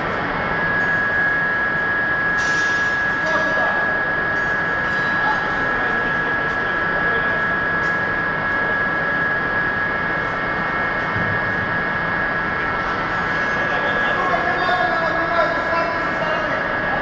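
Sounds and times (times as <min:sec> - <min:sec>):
heavy workshop machinery running: 0:00.0 - 0:17.0
high machine whine: 0:00.0 - 0:17.0.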